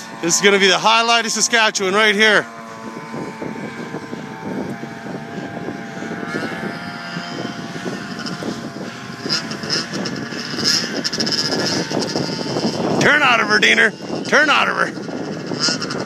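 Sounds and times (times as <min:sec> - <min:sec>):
engine crackles: 0:00.0 - 0:16.0
snowmobile engine droning: 0:00.0 - 0:16.0.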